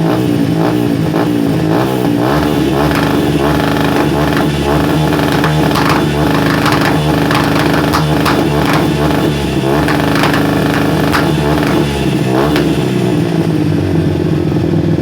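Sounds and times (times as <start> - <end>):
motorcycle engine revving with pops: 0.0 - 13.8.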